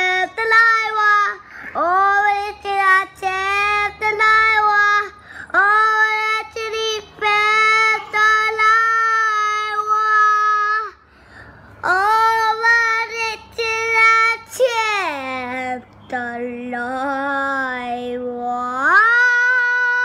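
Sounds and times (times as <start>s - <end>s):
small child singing: 0.0s - 11.0s, 11.8s - 20.0s.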